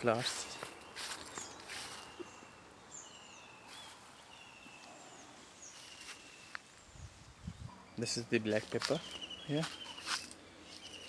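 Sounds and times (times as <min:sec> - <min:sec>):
birds calling: 0:00.0 - 0:11.0
outdoor background noise: 0:00.0 - 0:11.0.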